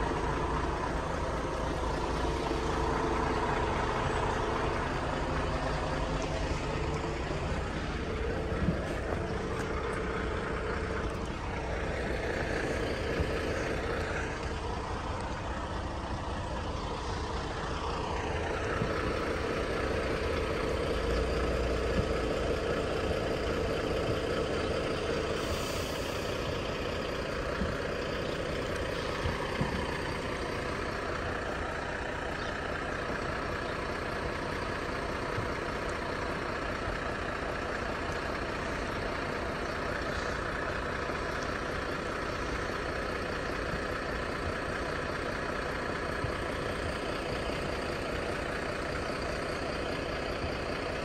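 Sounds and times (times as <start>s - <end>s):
heavy diesel engines running: 0.0s - 51.0s.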